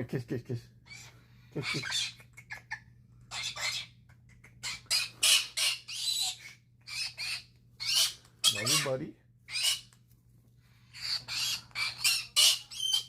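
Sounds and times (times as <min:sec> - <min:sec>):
cockatoo squawking: 0:00.8 - 0:10.0, 0:10.9 - 0:13.0.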